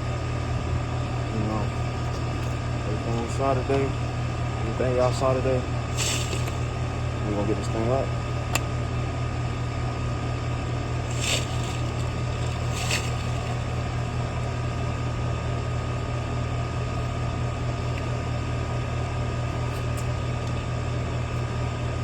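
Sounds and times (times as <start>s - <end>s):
air conditioner hum: 0.0s - 22.0s.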